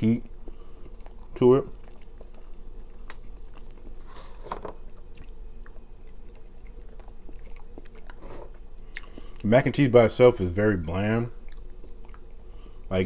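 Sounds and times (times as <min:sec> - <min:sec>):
chewing a burger: 0:00.0 - 0:12.9.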